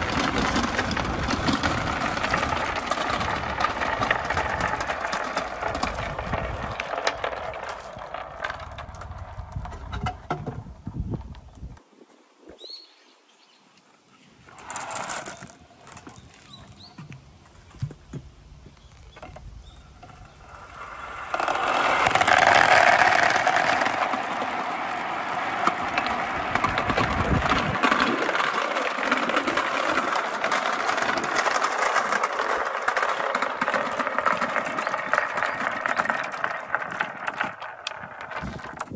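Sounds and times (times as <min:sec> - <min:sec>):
marbles rolling and clattering: 0:00.0 - 0:11.5, 0:14.5 - 0:16.9, 0:19.2 - 0:38.9.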